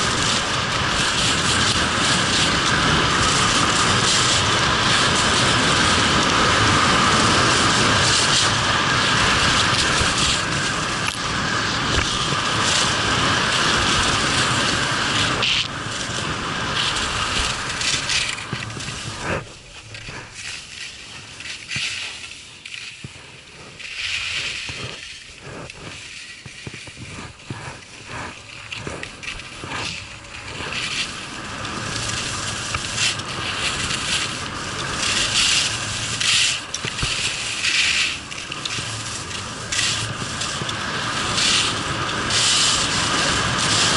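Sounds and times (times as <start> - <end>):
skis scraping on snow: 0.0 - 43.9.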